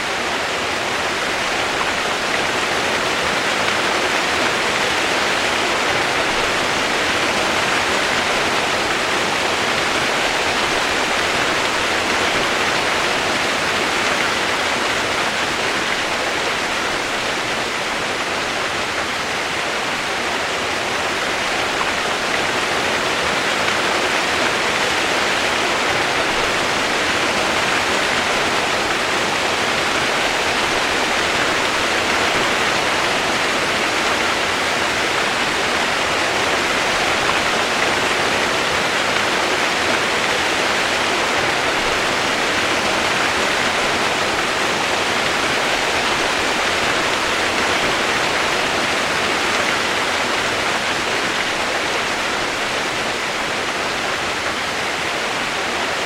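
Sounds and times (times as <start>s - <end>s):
rain white noise hiss: 0.0s - 56.0s.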